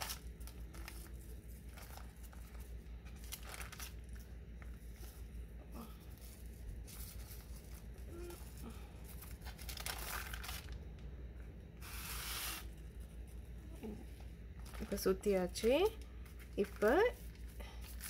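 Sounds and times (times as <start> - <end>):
baking paper rustling and crinkling: 0.0 - 11.1, 11.8 - 18.0.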